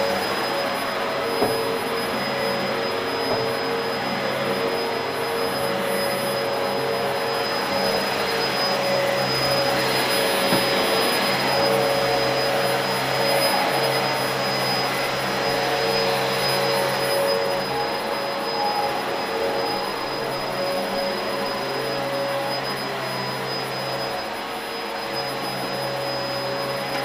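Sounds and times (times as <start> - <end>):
vacuum cleaner running over carpet: 0.0 - 27.0.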